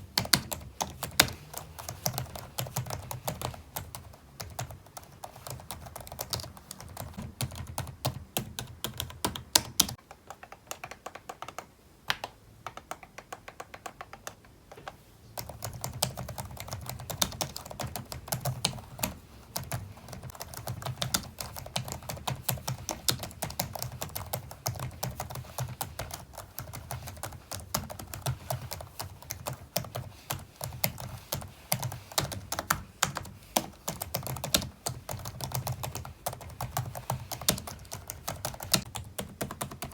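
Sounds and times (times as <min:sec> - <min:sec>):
typing on a keyboard: 0:00.0 - 0:39.9.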